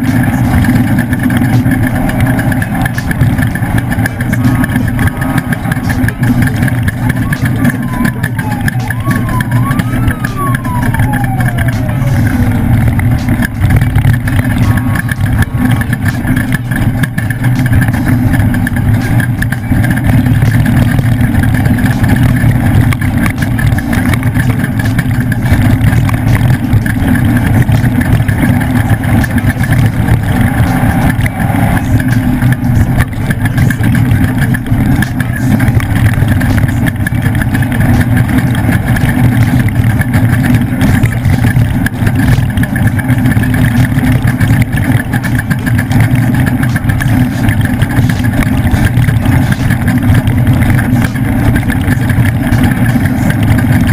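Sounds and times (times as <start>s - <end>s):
truck engine running loud: 0.0s - 53.9s.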